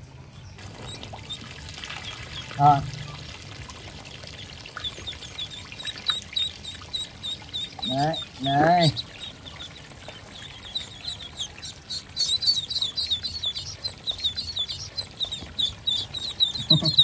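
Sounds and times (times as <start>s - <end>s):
ducklings peeping: 0.3s - 17.0s.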